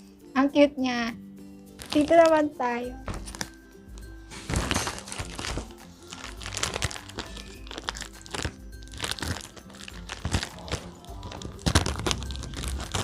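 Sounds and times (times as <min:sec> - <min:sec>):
background music: 0:00.0 - 0:13.0
plastic packaging crinkling: 0:01.8 - 0:02.4, 0:03.0 - 0:13.0.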